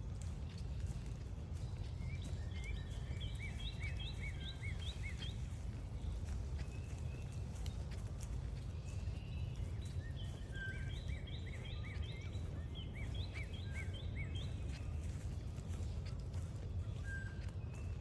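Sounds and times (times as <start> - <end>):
footstep clicks: 0.0 - 18.0
songbird chirping: 0.2 - 18.0.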